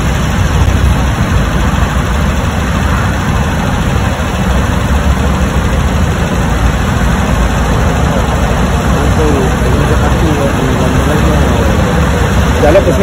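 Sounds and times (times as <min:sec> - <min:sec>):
engine idling: 0:00.0 - 0:13.0
road traffic rumble: 0:00.0 - 0:13.0.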